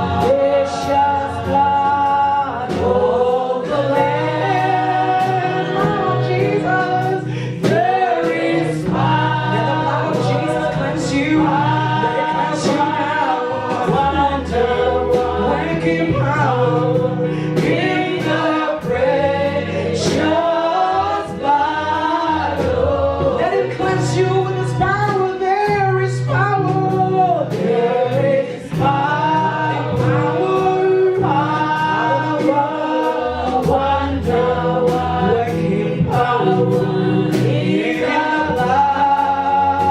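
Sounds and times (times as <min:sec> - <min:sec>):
bass line: 0:00.0 - 0:39.9
voices singing together: 0:00.0 - 0:39.9.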